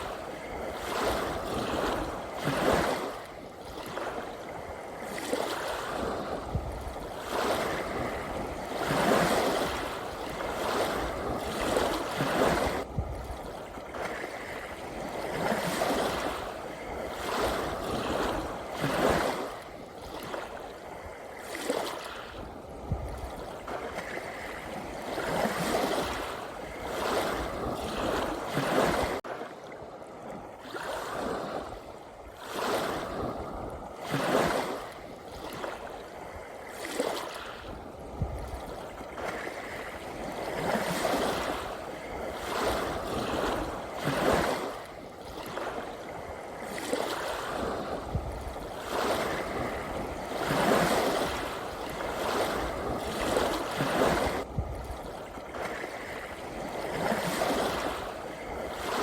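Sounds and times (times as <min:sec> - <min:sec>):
sea waves washing in: 0:00.0 - 0:59.0.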